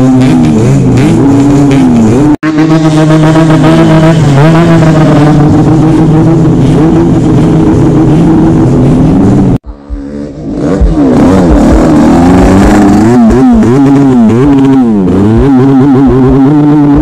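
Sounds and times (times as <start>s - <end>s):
motorcycle engines revving hard: 0.0s - 17.0s.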